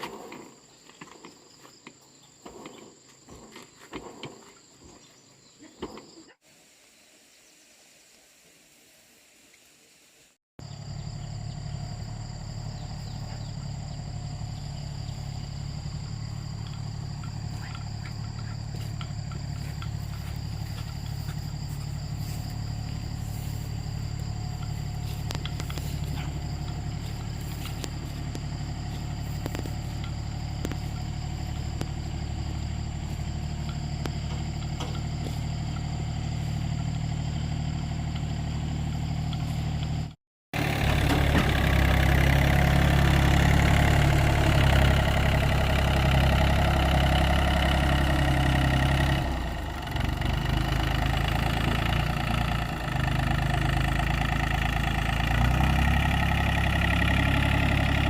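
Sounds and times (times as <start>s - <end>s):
engine running: 10.6s - 58.0s.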